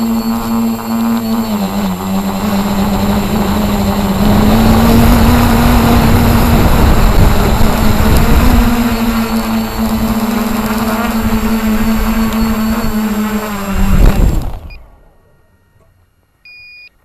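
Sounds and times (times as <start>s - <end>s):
rushing rotor wash: 0.0s - 14.8s
model helicopter rotor whine: 0.0s - 15.0s.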